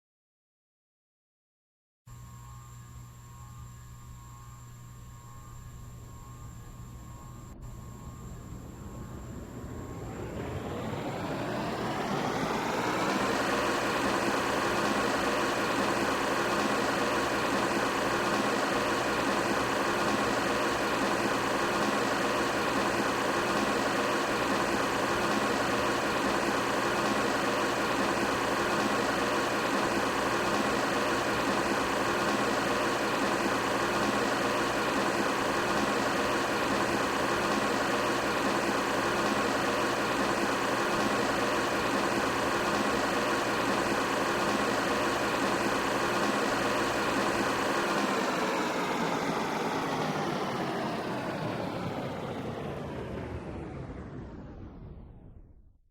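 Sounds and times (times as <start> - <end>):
wall fan whirring: 2.1 - 55.1.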